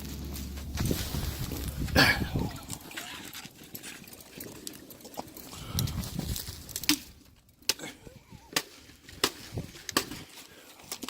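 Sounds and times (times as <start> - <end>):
ice cracking: 0.0 - 11.0
rough handling noise: 0.0 - 11.0.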